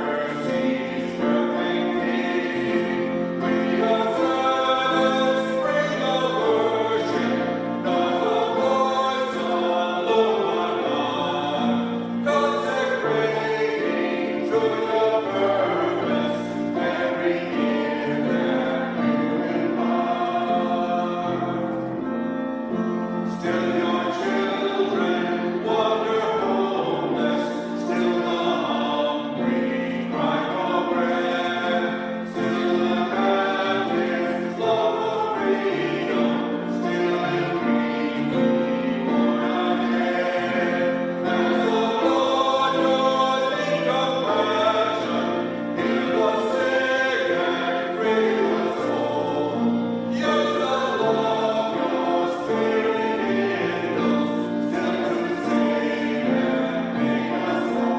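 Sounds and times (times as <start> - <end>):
choir singing a sacred piece: 0.0 - 57.9
instrumental accompaniment: 0.0 - 57.9.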